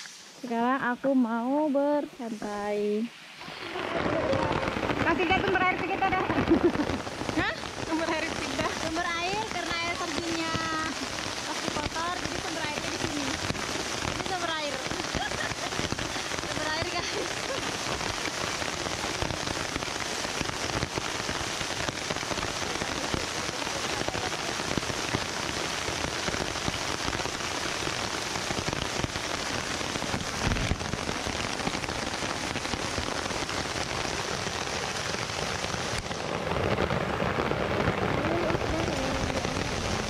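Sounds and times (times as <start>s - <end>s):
small waterfall rushing: 0.0s - 40.0s
steady rain falling: 0.0s - 40.0s.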